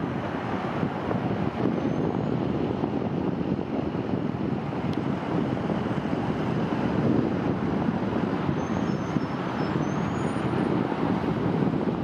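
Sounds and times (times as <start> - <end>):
jet engines climbing rumble: 0.0 - 12.0.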